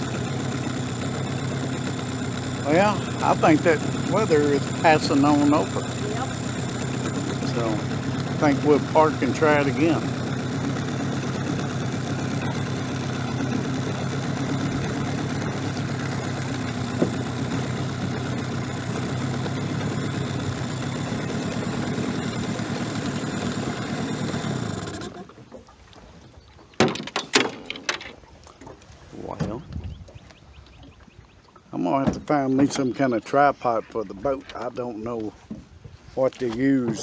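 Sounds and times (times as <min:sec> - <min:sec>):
boat motor running: 0:00.0 - 0:27.0, 0:28.0 - 0:37.0.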